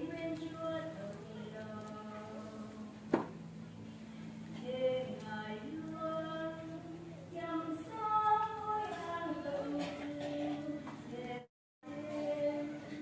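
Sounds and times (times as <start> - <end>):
women singing a hymn: 0.0 - 3.1, 4.6 - 13.0.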